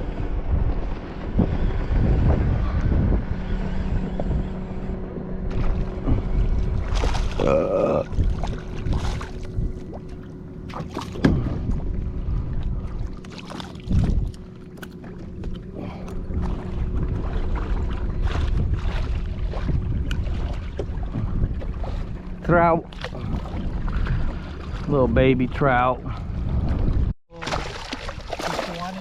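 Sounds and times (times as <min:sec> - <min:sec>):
wind buffeting microphone: 0:00.0 - 0:27.2
steady low hum: 0:00.0 - 0:29.0.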